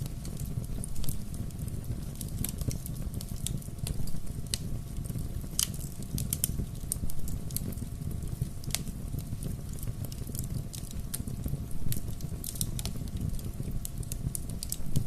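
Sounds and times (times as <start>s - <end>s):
bonfire low rumble: 0.0s - 15.0s.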